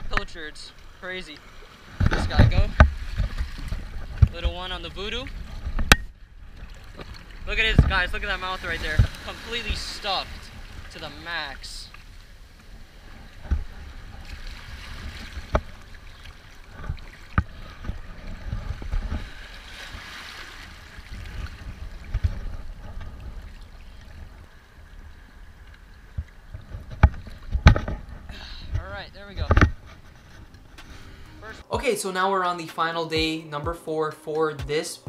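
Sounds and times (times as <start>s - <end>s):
waves sloshing over rocks: 0.0s - 30.8s.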